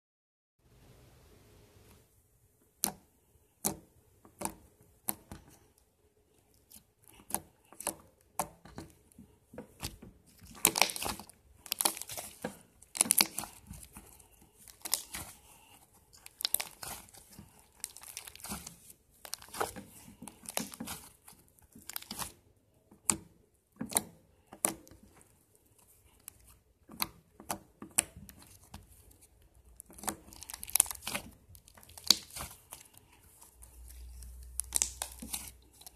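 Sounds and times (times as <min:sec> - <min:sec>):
slime clicking and crackling: 0:06.4 - 0:35.9.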